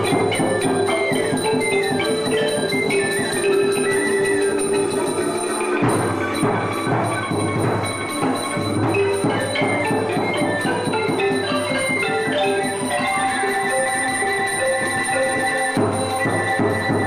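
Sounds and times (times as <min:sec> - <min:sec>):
ringing pitched notes: 0:00.0 - 0:17.0.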